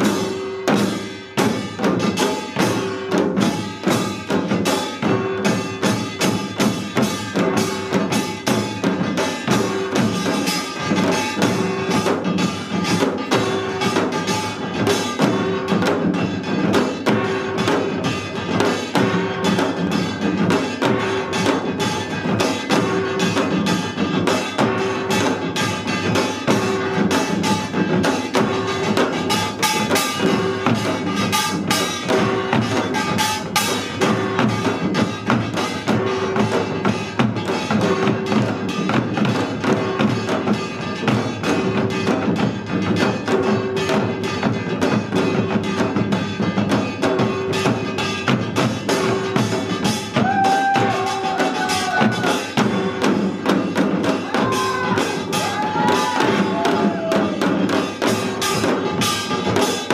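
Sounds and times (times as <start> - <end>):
drums beating fast rhythm: 0.0 - 59.9
small gongs clanging: 0.0 - 59.9.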